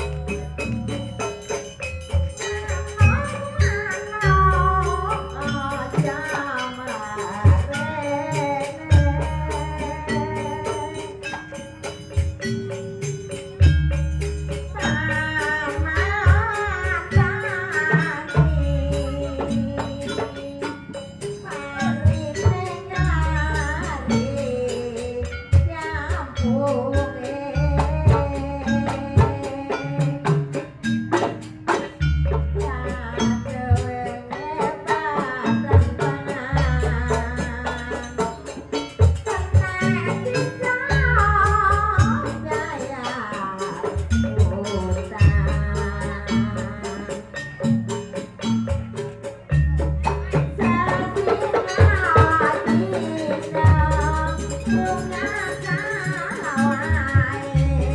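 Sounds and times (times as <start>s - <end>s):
high wavering melody: 0.0s - 57.9s
struck metallophones: 0.0s - 57.9s.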